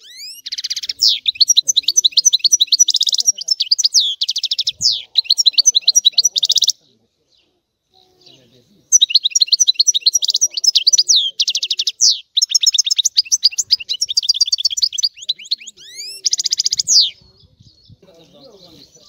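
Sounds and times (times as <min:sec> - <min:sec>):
goldfinch singing: 0:00.0 - 0:19.0.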